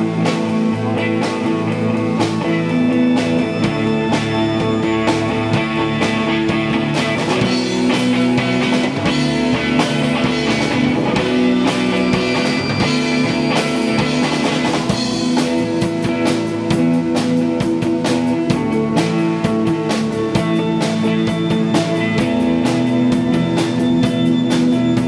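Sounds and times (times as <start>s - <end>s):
drum and cymbal hits: 0.0s - 25.0s
held guitar chords: 0.0s - 25.0s
rock band playing: 0.0s - 25.0s.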